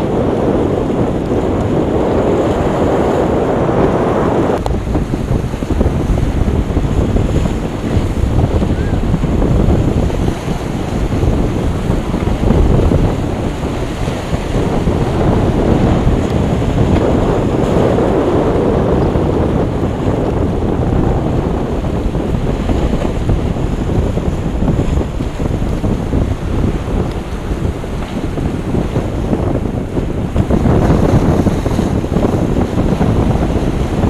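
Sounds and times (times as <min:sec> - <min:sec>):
waves breaking: 0:00.0 - 0:34.0
wind buffeting microphone: 0:00.0 - 0:34.0.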